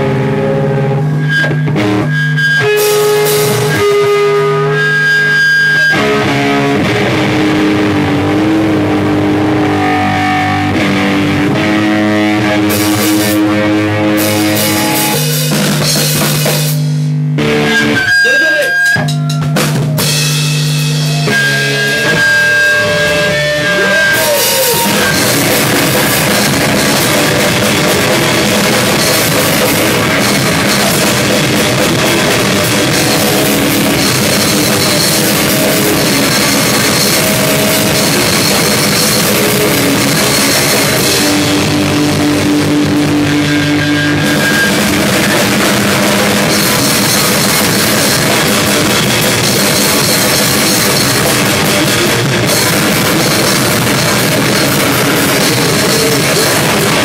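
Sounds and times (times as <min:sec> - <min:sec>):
electric guitar: 0:00.0 - 0:57.0
drum kit with cymbals: 0:01.0 - 0:57.0.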